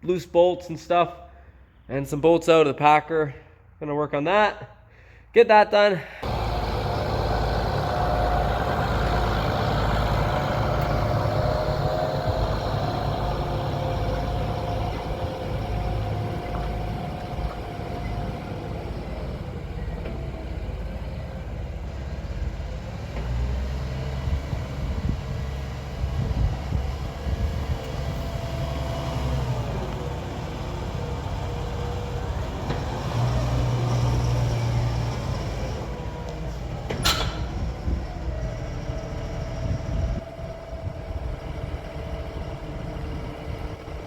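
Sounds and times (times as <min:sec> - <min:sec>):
tractor engine running: 0:06.2 - 0:44.0.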